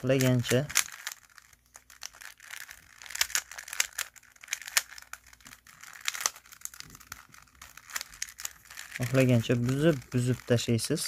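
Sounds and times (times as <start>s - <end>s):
puzzle cube turning clicks: 0.0s - 11.0s.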